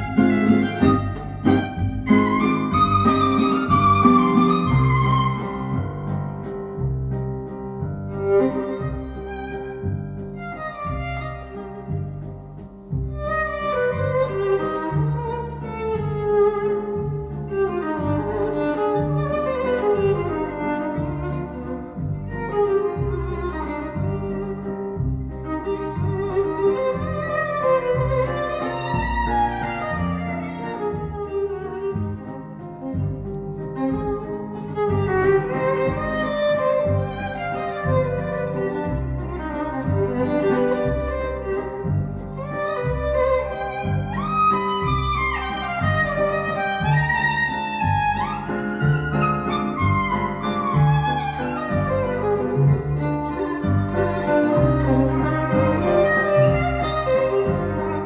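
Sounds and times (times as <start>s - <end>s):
low bass notes: 0.0s - 58.0s
string music with violin: 0.0s - 58.0s.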